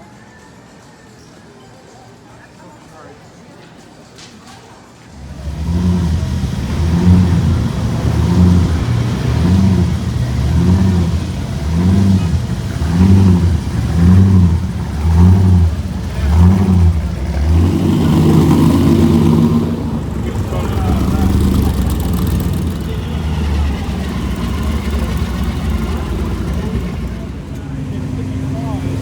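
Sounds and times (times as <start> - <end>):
car engine revving: 5.1 - 29.0.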